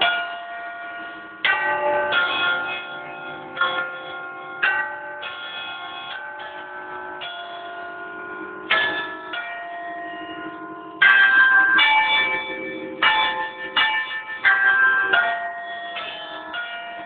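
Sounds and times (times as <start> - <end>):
church bells chiming: 0.0 - 17.0.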